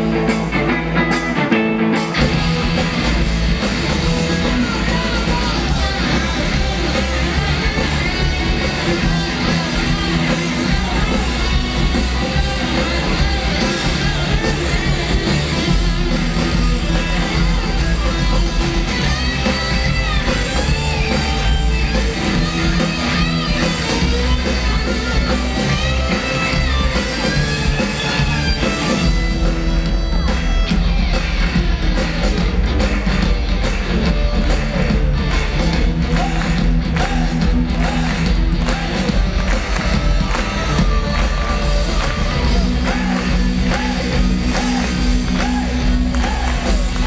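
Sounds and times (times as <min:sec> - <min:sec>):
bass guitar: 0:00.0 - 0:47.0
distorted electric guitars: 0:00.0 - 0:47.0
drums: 0:00.0 - 0:47.0.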